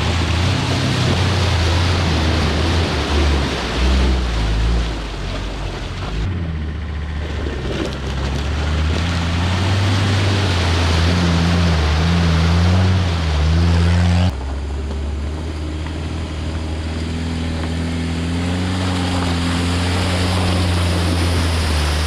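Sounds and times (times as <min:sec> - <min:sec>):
off-road engine labouring: 0:00.0 - 0:22.0.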